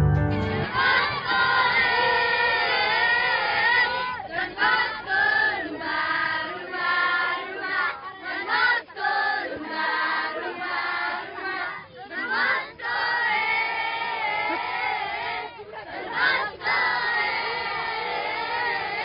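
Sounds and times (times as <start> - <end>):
girls singing in chorus: 0.6 - 19.0.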